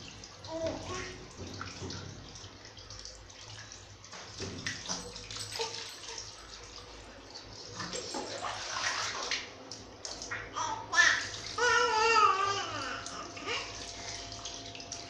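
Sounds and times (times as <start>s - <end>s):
water splashing and dripping: 0.0s - 15.0s.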